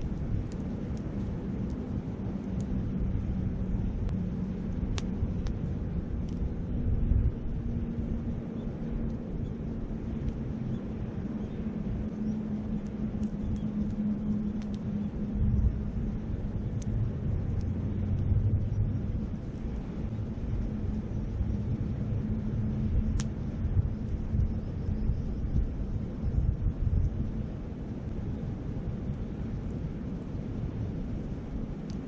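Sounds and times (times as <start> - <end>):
campfire crackling and popping: 0.0 - 32.0
wind rumbling on microphone: 0.0 - 32.0.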